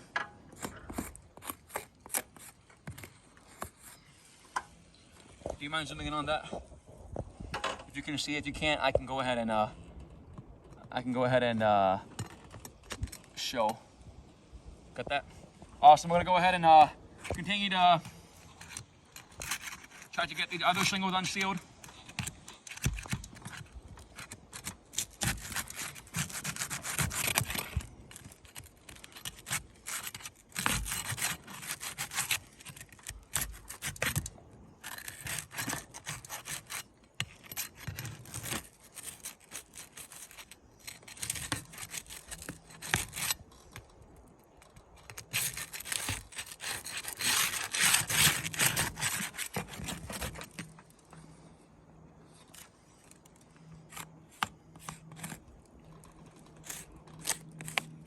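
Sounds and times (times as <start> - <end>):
pry bar scraping under shingles: 0.0 - 13.8, 15.2 - 58.0.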